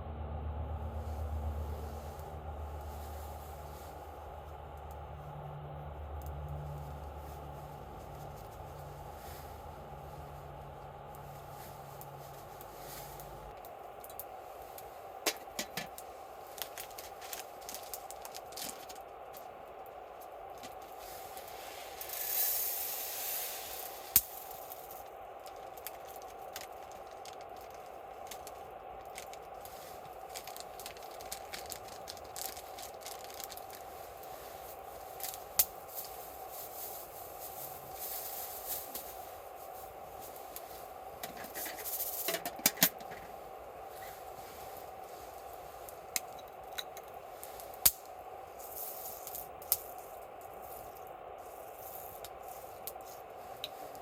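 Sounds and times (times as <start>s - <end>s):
fire hissing: 0.7s - 54.0s
campfire crackling: 0.8s - 54.0s.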